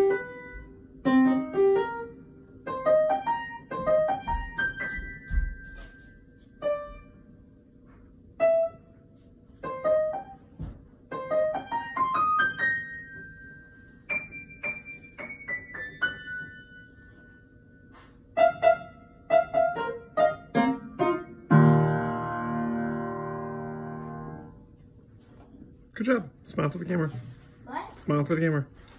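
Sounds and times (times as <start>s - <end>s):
piano melody: 0.0s - 7.5s, 8.4s - 24.6s.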